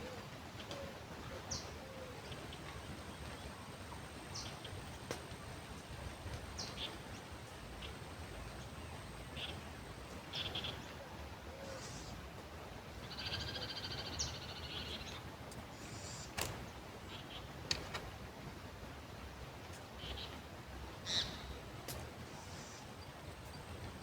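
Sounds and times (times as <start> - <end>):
songbirds chirping: 0.0 - 24.0
wind or river hiss: 0.0 - 24.0.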